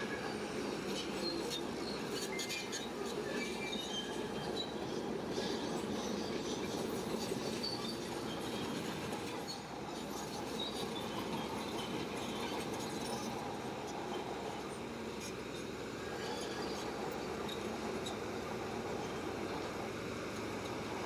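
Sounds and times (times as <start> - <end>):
steel tracks clanking: 0.0 - 20.8
diesel engine running: 0.0 - 21.0.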